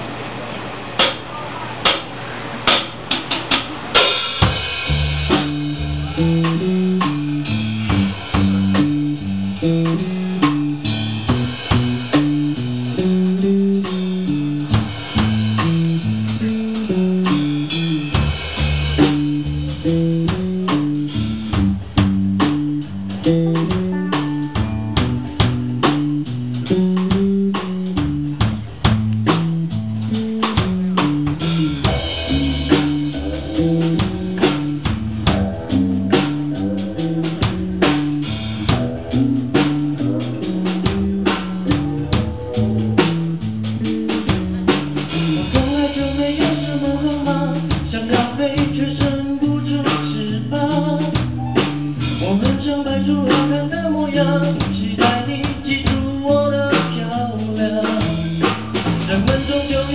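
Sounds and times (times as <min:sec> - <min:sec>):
bass line: 0:00.0 - 0:59.9
drum hits: 0:01.0 - 0:49.3
rock band playing live: 0:01.0 - 0:59.9.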